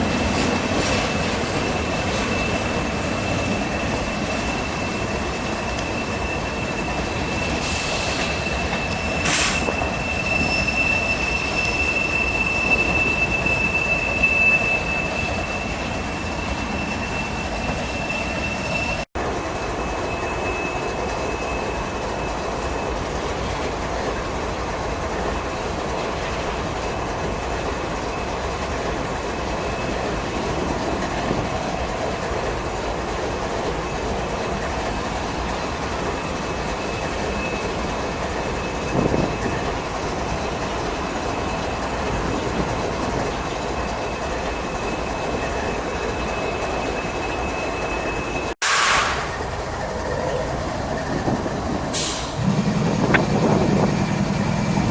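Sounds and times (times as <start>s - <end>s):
high wheel squeal: 0.0s - 23.3s, 33.6s - 54.9s
train wheels rumbling on rails: 0.0s - 54.9s.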